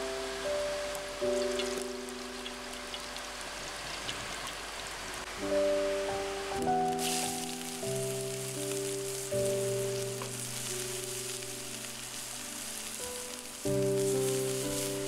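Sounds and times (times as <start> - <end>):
slow music with held notes: 0.0 - 3.6, 5.3 - 15.0
onion sizzling in frying pan: 0.0 - 15.0.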